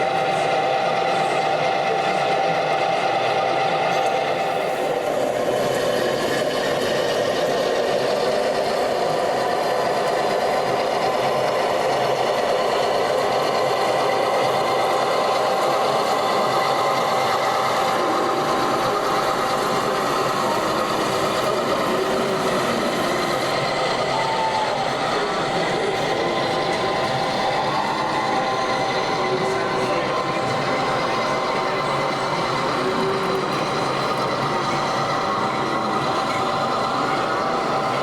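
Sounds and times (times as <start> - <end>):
model train motor whine: 0.0 - 38.0.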